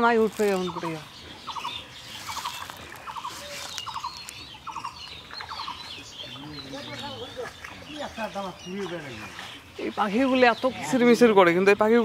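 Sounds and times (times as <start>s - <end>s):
thin high bird chirps: 0.0s - 11.0s
small birds trilling: 0.0s - 12.0s.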